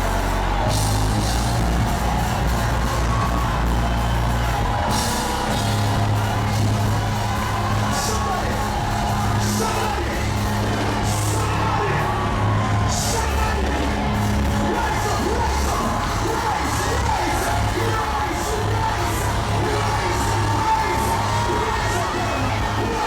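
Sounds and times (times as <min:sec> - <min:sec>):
church band playing gospel: 0:00.0 - 0:23.0.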